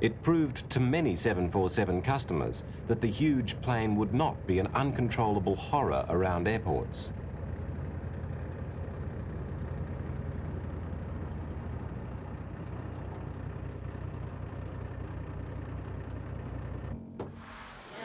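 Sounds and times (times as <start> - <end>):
truck engine drone: 0.0 - 18.0.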